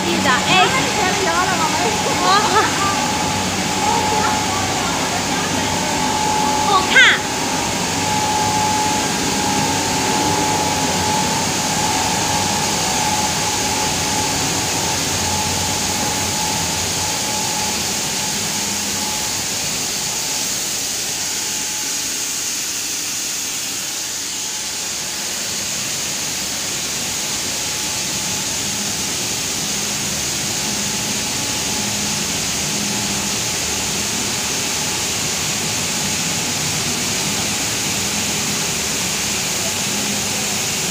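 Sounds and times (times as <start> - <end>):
steady whine: 0.0 - 40.9
wire production line machine din: 0.0 - 40.9.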